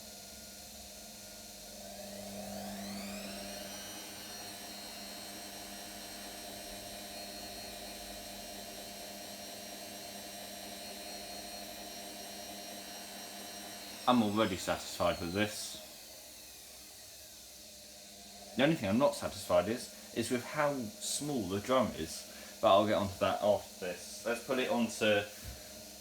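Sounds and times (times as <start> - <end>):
washing machine spinning: 1.8 - 26.0.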